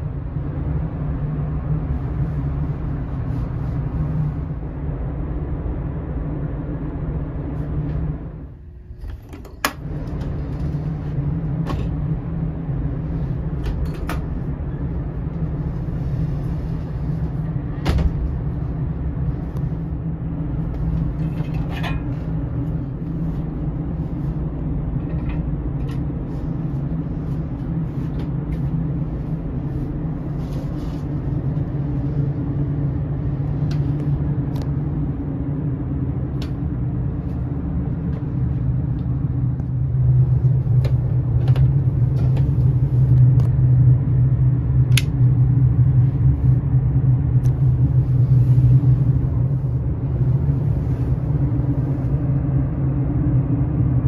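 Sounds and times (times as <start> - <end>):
low drone of ship machinery: 0.0 - 54.0.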